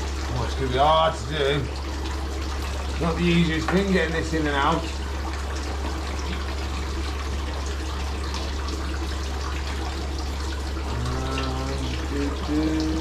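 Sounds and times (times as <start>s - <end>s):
constant low hum: 0.0s - 13.0s
water trickling from aquarium filter: 0.0s - 13.0s.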